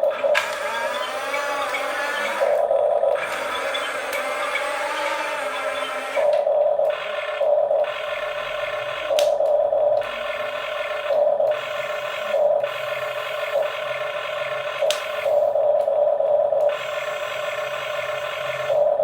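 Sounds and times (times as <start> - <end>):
small electric motors whirring: 0.0 - 15.6, 16.6 - 19.0.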